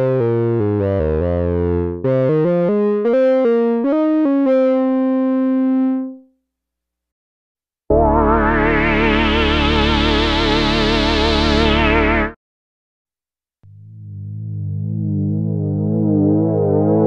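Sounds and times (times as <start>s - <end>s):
synthesizer chords and notes: 0.0s - 6.2s, 7.9s - 12.4s, 13.7s - 17.0s.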